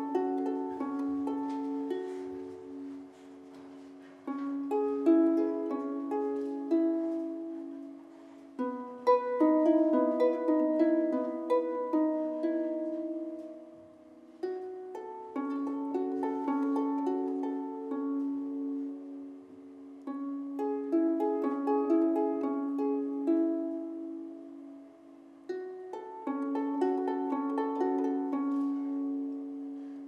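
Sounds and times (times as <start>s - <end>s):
harp playing: 0.0s - 30.0s.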